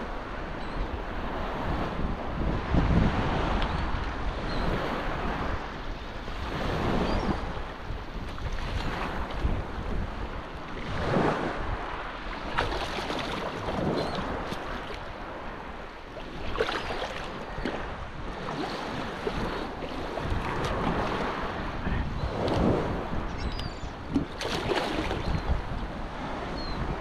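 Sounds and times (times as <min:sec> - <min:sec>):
shallow surf splashing: 0:00.0 - 0:27.0
wind rumbling on microphone: 0:00.0 - 0:27.0.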